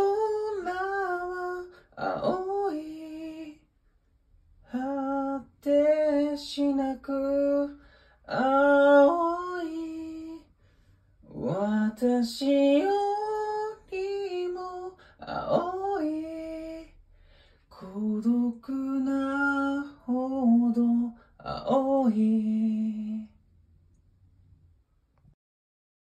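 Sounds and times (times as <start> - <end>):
person singing a cappella: 0.0 - 3.7, 4.6 - 10.5, 11.2 - 17.0, 17.6 - 23.4.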